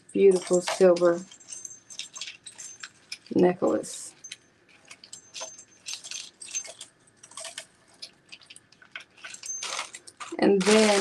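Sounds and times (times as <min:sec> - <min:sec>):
metal jewelry clinking: 0:00.0 - 0:11.0.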